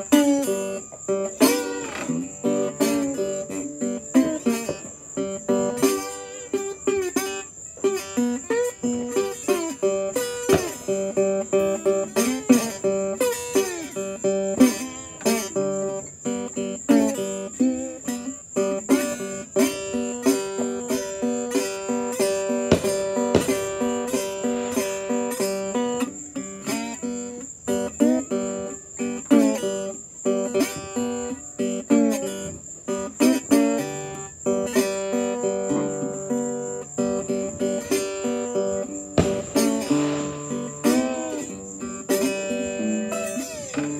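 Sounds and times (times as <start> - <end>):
guitar playing boogie tune: 0.0 - 43.9.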